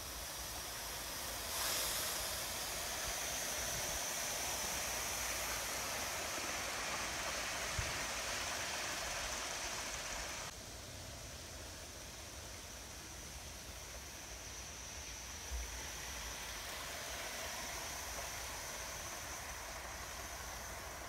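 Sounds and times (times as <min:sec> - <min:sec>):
steam locomotive running past: 0:00.0 - 0:10.5, 0:11.4 - 0:21.0.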